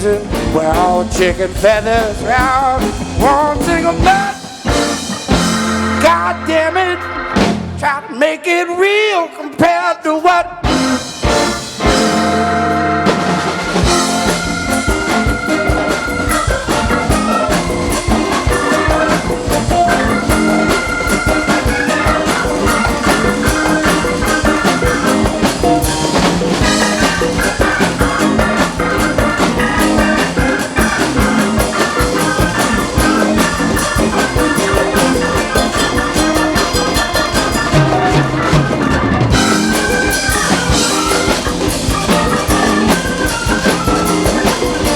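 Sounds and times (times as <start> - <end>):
drum kit beat: 0.0 - 8.0, 10.6 - 44.9
live band playing: 0.0 - 9.1, 10.4 - 44.9.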